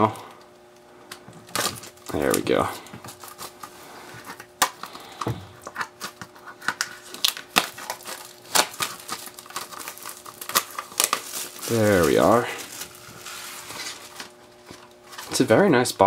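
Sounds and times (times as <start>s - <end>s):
plastic shrink-wrap tearing: 1.4s - 15.6s.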